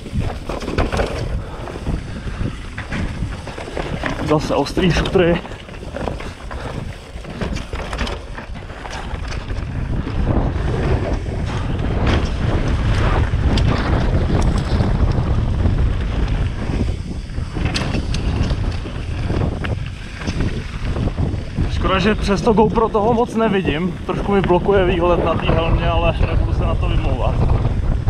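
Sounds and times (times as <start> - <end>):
bike rattling over stones: 0.0 - 28.0
wind buffeting microphone: 0.0 - 28.0.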